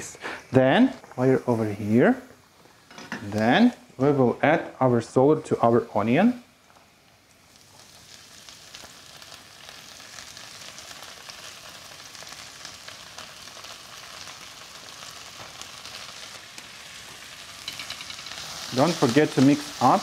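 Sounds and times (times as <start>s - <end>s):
leaves sizzling in hot oil: 0.0s - 20.0s.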